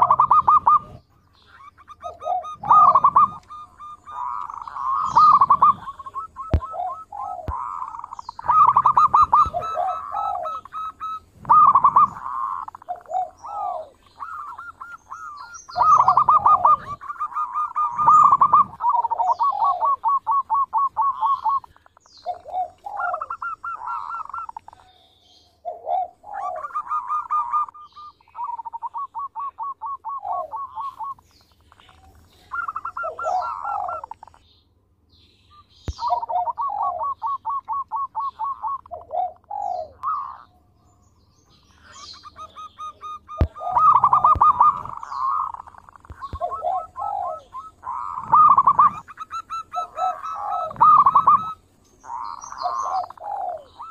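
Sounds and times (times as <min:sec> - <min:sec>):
dove cooing: 0:00.0 - 0:34.4, 0:35.9 - 0:40.7, 0:41.6 - 0:53.9.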